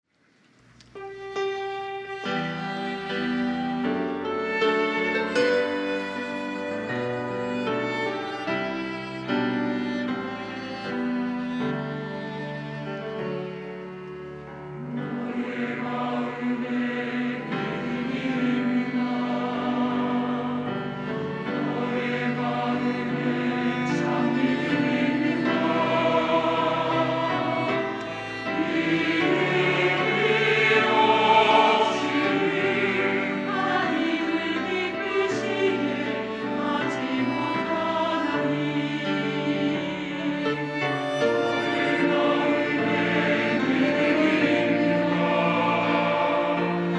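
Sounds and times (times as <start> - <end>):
strings accompaniment: 0.8 - 46.9
church choir singing: 1.0 - 46.9.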